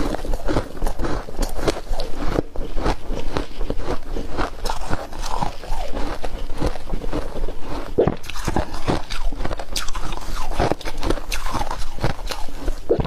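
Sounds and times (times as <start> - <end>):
ice crunching while chewed: 0.0 - 13.0.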